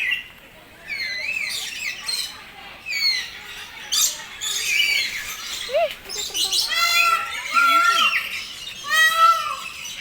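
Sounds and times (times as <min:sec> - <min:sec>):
flock of birds chirping and squawking: 0:00.0 - 0:10.0.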